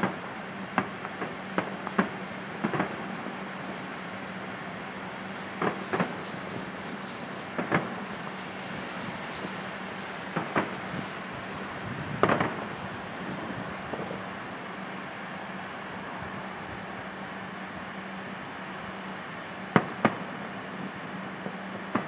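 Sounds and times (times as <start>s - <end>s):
distant fireworks bursting: 0.0s - 15.6s, 19.7s - 22.0s
background hiss: 0.0s - 22.0s.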